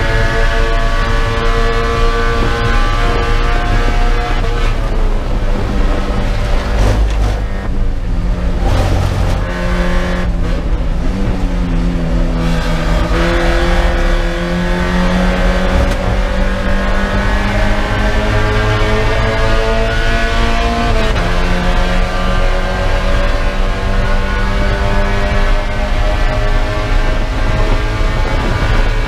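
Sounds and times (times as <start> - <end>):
race car engine running hard: 0.0 - 29.0.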